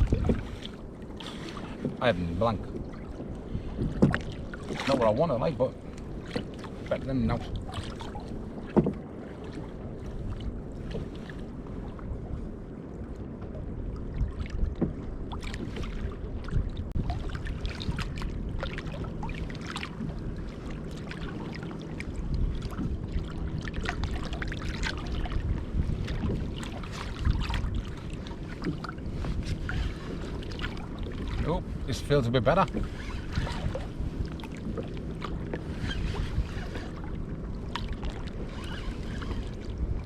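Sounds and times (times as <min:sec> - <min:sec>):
water lapping against hull: 0:00.0 - 0:40.0
wind rumble on microphone: 0:00.0 - 0:40.0.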